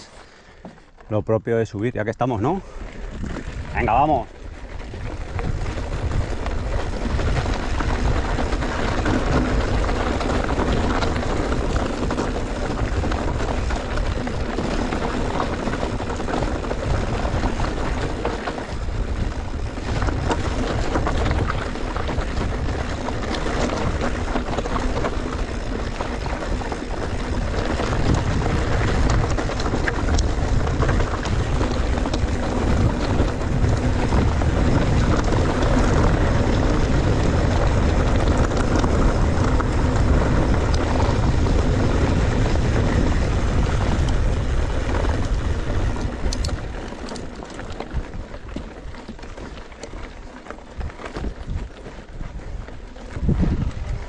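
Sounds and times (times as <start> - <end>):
bike rattling: 0.0 - 54.0
bike tyres on dirt: 0.0 - 54.0
wind buffeting microphone: 0.0 - 54.0.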